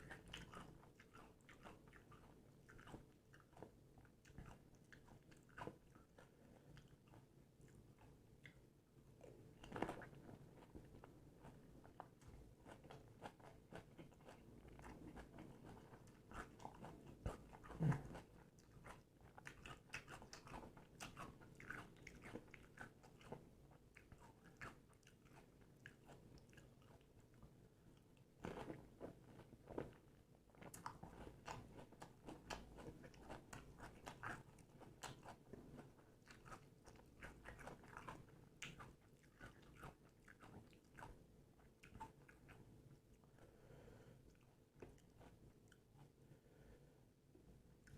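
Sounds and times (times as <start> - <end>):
crunching and chewing crisp food: 0.0 - 46.2.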